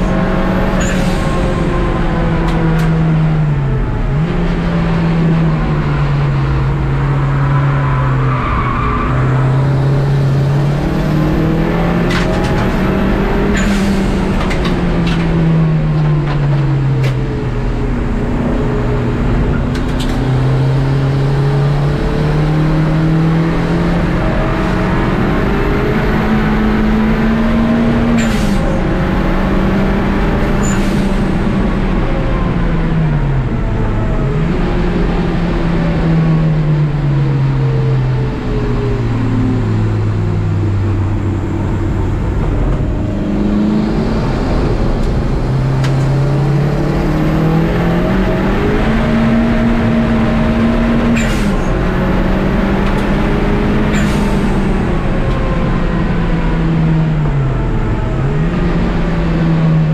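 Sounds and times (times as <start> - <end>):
race car engine accelerating: 0.0 - 59.9
road and wind noise: 0.0 - 59.9.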